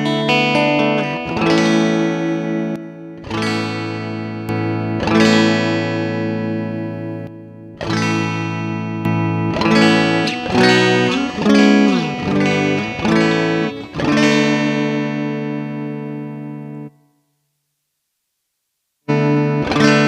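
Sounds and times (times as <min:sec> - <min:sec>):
guitar chords and bent notes: 0:00.0 - 0:17.1, 0:19.1 - 0:20.0.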